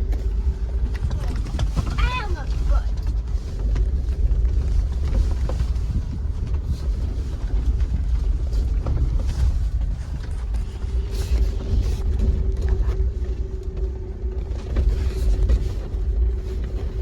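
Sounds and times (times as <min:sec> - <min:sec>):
engine and tyres rumbling: 0:00.0 - 0:17.0
knocks and rattles over bumps: 0:00.0 - 0:17.0.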